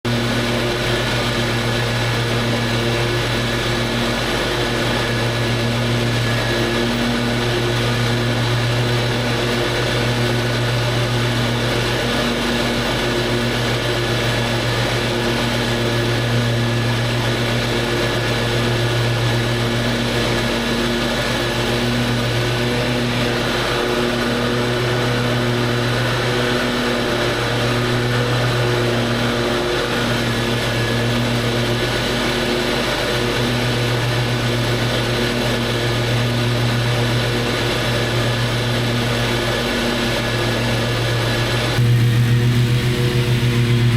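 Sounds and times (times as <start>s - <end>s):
lawn mower engine running: 0.0s - 43.9s.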